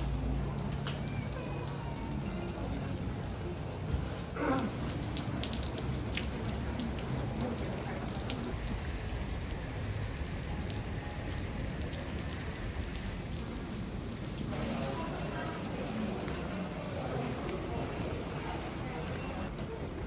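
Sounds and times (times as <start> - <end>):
rain falling on paving: 0.0 - 20.0.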